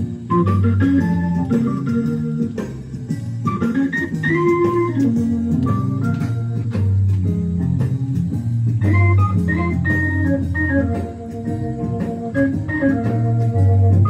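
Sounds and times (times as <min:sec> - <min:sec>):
music through loudspeakers: 0:00.0 - 0:14.0.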